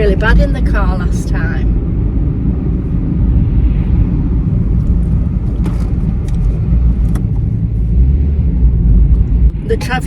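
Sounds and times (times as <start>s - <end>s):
car interior road rumble: 0.0s - 10.0s.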